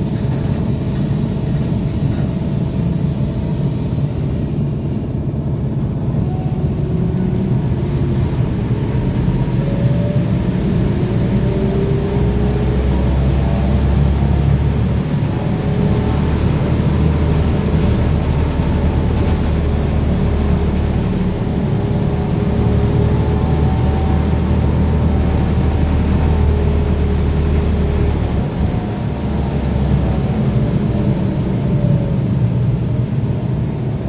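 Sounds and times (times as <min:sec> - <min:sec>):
low road rumble: 0:00.0 - 0:34.0.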